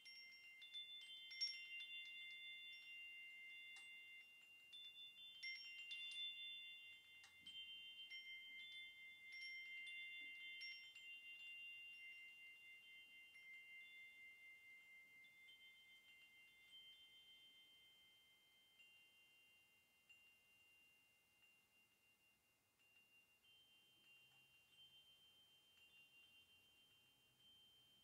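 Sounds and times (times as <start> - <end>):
faint metal chimes ringing: 0.0 - 28.0.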